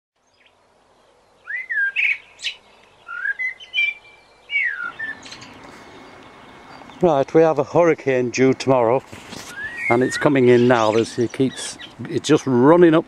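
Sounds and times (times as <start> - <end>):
songbird singing: 0.2 - 13.0.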